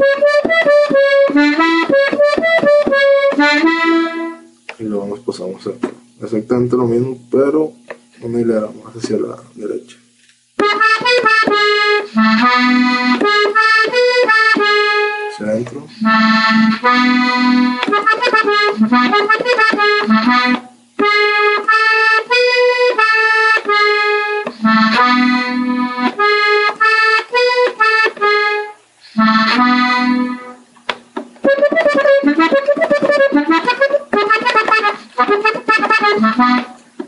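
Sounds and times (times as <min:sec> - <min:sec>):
button accordion melody: 0:00.0 - 0:04.6, 0:10.6 - 0:30.7, 0:31.4 - 0:36.8.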